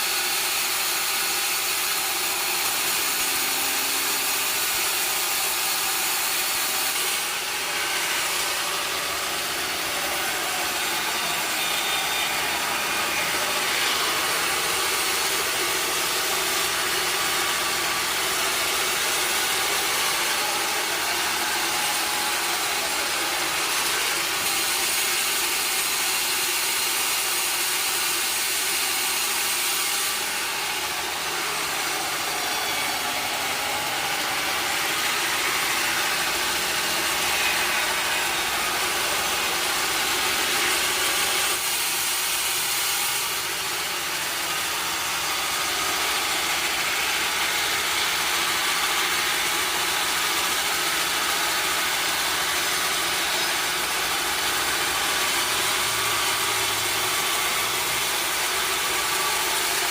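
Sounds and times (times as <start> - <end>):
sawmill saw and engine running: 0.0 - 59.9.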